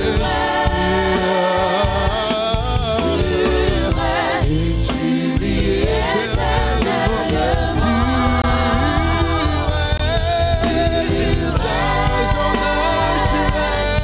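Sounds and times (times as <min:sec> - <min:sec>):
band with low bass: 0:00.0 - 0:14.0
man singing: 0:00.0 - 0:14.0.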